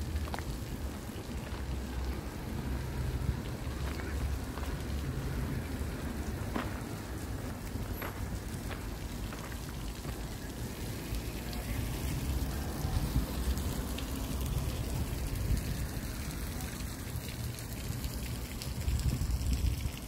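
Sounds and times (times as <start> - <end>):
water spraying from fountain: 0.0 - 20.0.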